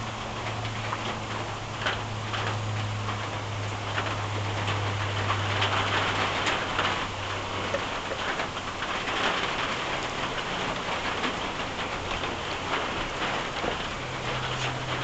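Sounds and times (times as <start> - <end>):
rain on leaves and pavement: 0.0 - 15.0.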